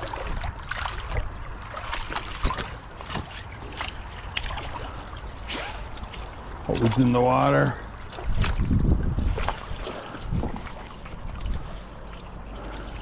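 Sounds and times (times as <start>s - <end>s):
creek trickling: 0.0s - 13.0s.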